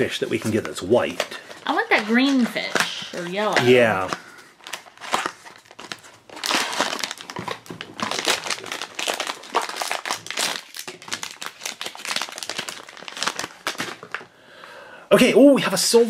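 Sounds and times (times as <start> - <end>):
plastic bag crinkling: 0.0 - 14.3.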